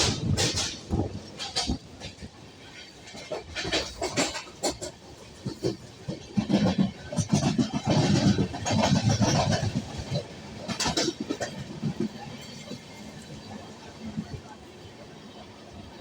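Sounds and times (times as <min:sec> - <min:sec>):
train wheels rattling and clattering: 0:00.0 - 0:16.0.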